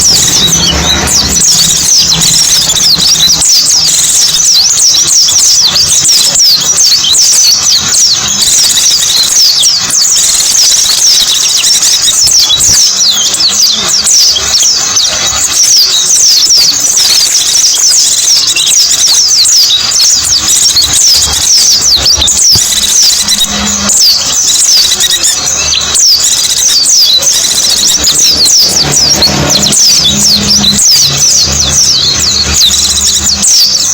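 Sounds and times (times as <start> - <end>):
bird twittering chirps: 0.0 - 33.9.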